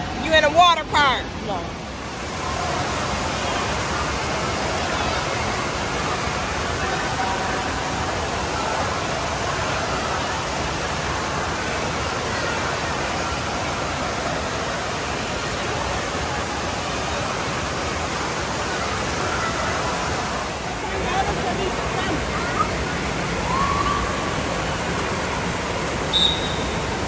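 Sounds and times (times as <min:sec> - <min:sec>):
water falling and splashing: 0:00.9 - 0:27.0.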